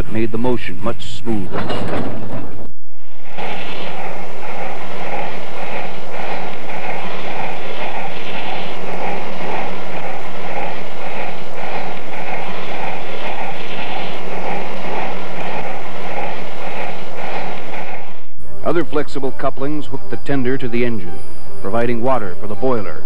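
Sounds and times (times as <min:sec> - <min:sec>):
steam locomotive exhaust chuffing: 0:00.0 - 0:21.0
continuous low hum: 0:00.0 - 0:23.0.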